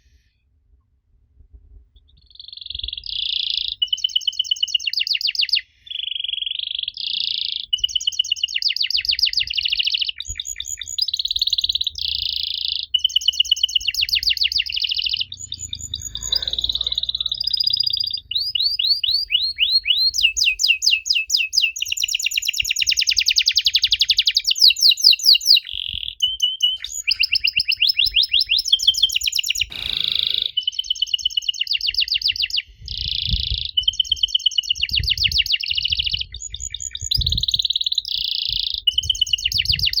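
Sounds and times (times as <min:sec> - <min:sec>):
canary singing trills: 0:02.3 - 0:40.0.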